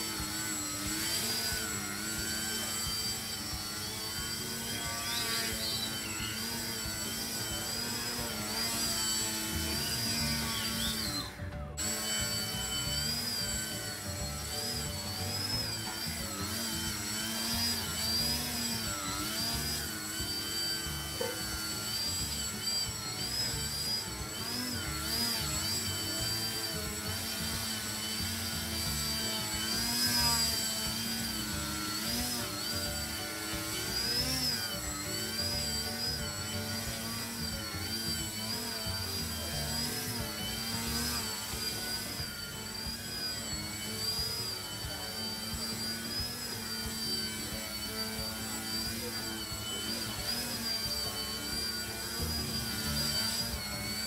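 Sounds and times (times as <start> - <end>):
rc airplane motor whining: 0.0 - 54.0.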